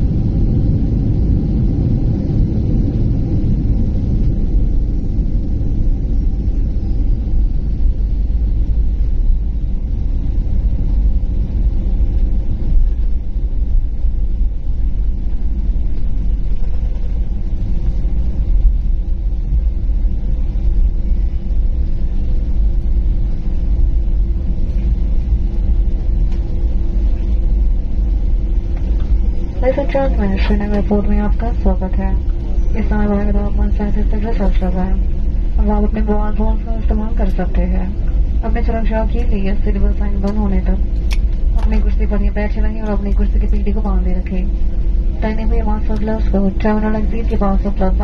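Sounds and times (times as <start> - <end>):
airliner cabin engine rumble: 0.0 - 48.0
faint hum: 0.0 - 48.0.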